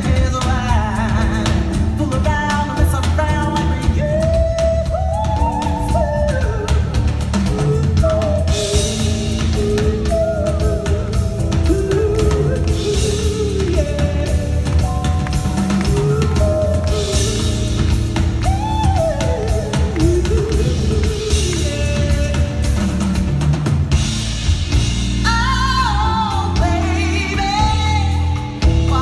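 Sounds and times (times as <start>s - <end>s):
live band music: 0.0s - 29.0s.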